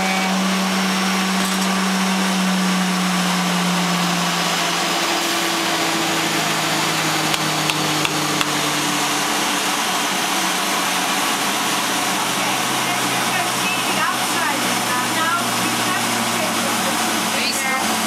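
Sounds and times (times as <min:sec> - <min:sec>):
lathe machines whirring: 0:00.0 - 0:18.0.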